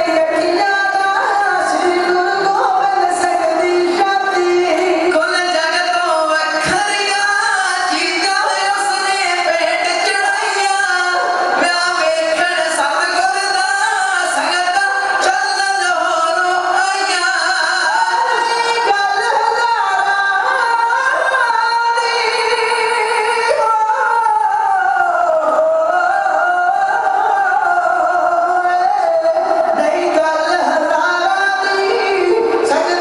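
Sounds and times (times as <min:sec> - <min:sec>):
men singing devotional song: 0:00.0 - 0:33.0.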